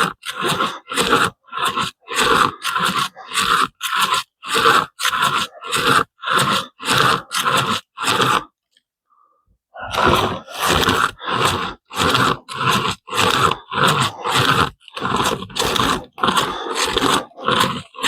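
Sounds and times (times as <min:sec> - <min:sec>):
pocket chainsaw rasping through wood: 0:00.0 - 0:08.6, 0:09.8 - 0:18.0.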